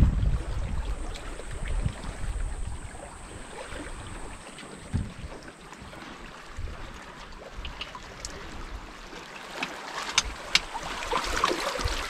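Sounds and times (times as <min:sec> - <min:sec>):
small waves lapping on rocks: 0:00.4 - 0:12.0.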